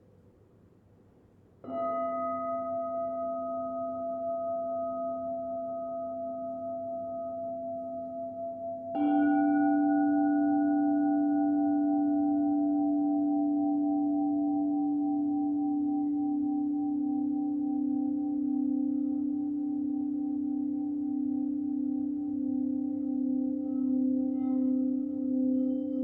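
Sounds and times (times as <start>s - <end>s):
crystal singing bowls ringing: 1.6s - 26.0s.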